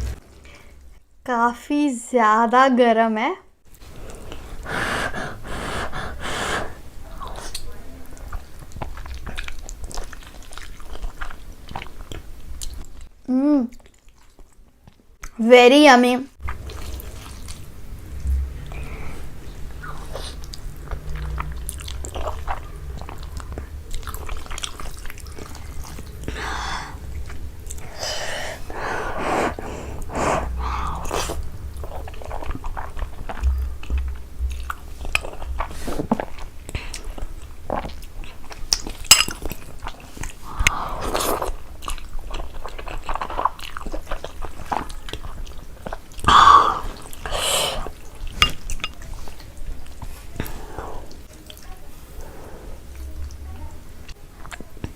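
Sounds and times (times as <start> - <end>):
chewing noodles: 3.7 - 13.1, 13.7 - 15.0, 16.4 - 17.8, 18.6 - 53.4, 54.0 - 54.9.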